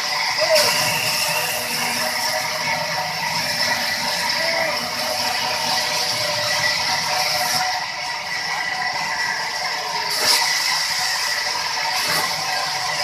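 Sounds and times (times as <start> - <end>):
band saw running: 0.0 - 13.0
high hiss of saw cutting: 0.0 - 13.0.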